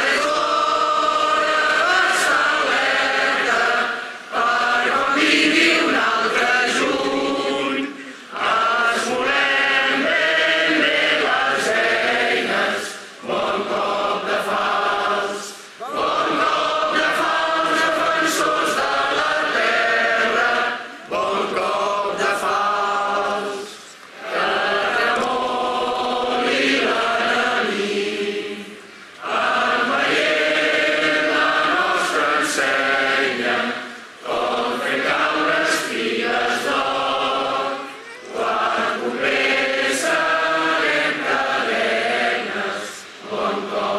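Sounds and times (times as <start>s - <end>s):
crowd singing together: 0.0s - 43.9s.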